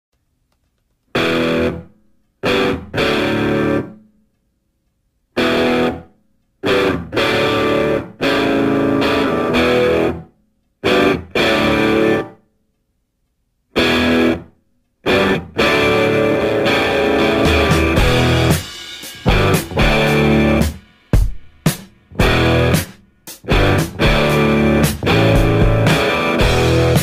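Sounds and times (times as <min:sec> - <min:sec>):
distorted electric guitar chords: 0:01.1 - 0:04.0, 0:05.4 - 0:12.4, 0:13.8 - 0:21.3, 0:22.1 - 0:27.0.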